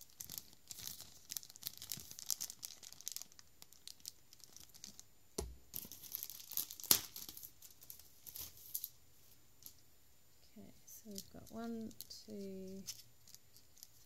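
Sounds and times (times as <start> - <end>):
plastic bag crinkling: 0.0 - 5.1, 5.7 - 9.0, 10.9 - 14.0.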